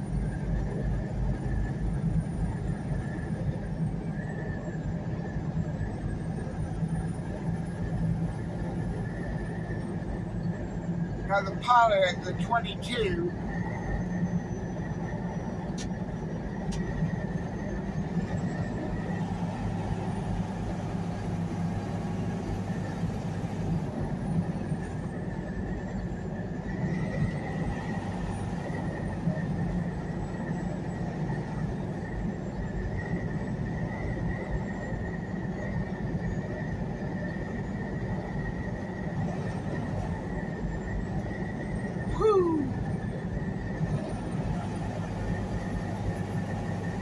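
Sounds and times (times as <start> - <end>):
truck engine and road noise: 0.0 - 47.0.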